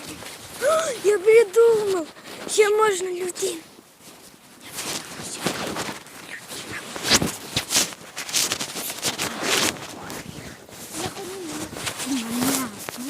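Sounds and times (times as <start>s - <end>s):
footsteps crunching on snow: 0.0s - 13.0s.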